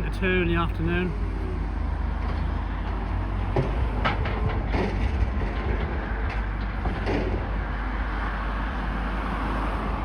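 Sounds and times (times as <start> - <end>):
demolition machinery rumble: 0.0 - 8.2.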